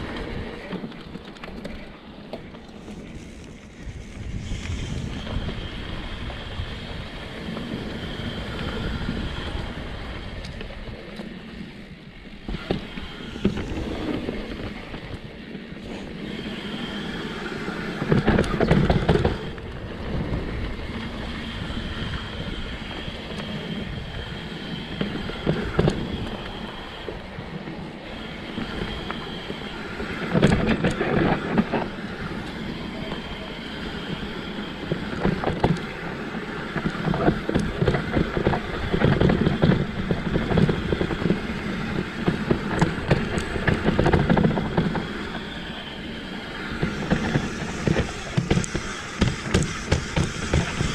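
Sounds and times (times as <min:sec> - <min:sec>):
bike rattling over bumps: 0:00.0 - 0:50.9
bike tyres rolling over dirt: 0:00.0 - 0:50.9
wind buffeting microphone: 0:00.0 - 0:50.9.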